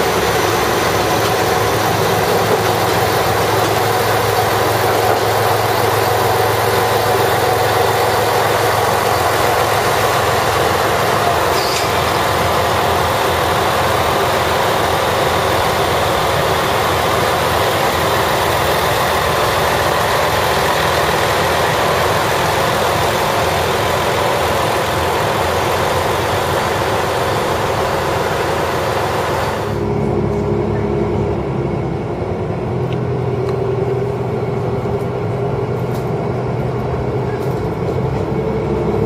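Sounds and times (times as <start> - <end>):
diesel train passing: 0.0 - 39.0.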